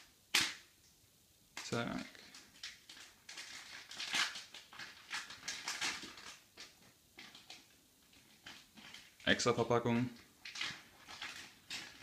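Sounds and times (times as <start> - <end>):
plastic bags crinkling: 1.6 - 12.0.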